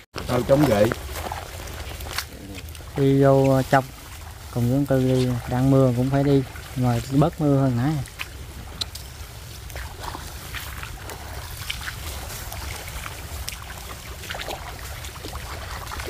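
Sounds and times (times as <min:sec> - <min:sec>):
footsteps sloshing through water: 0:00.0 - 0:16.0
rain drips: 0:00.0 - 0:16.0
undergrowth rustling: 0:00.0 - 0:16.0.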